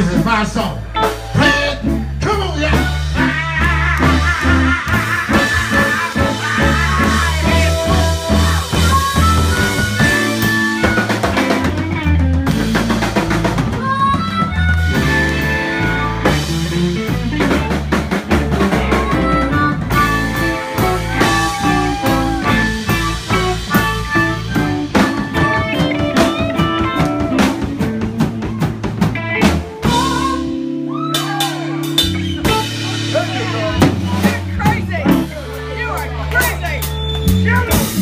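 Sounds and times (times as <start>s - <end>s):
drum kit with rimshots: 0.0s - 38.0s
guitar lines: 0.0s - 38.0s
low bass notes: 0.0s - 38.0s.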